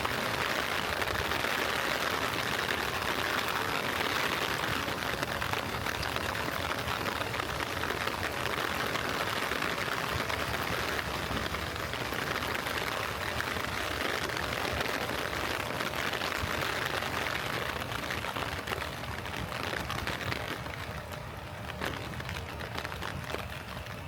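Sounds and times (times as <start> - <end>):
gentle rain falling: 0.0 - 24.0.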